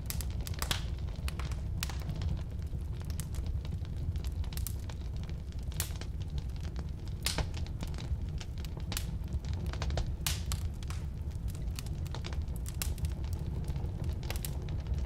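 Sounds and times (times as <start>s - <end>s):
firewood crackling and popping: 0.0s - 15.0s
rumble of flame: 0.0s - 15.0s.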